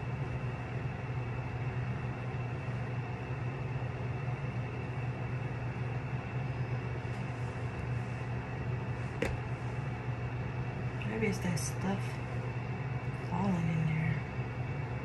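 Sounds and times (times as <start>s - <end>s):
machine humming with hiss: 0.0s - 15.0s.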